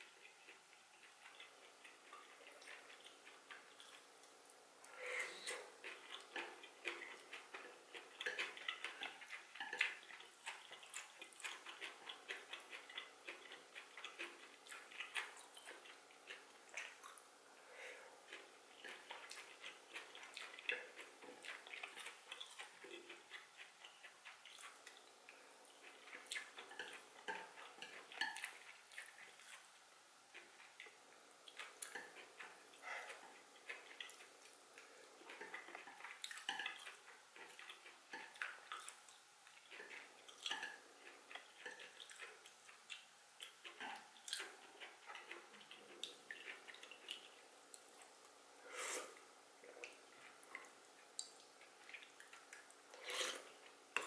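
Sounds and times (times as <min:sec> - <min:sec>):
soft chewing: 0:00.0 - 0:54.0.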